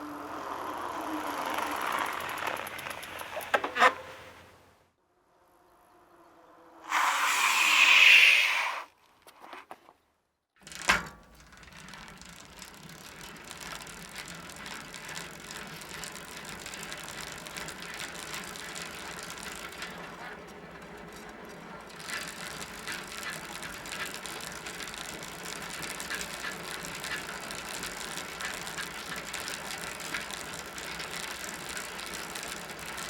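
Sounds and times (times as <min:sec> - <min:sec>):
bicycle drivetrain ticking: 0:00.0 - 0:04.6, 0:10.6 - 0:33.0.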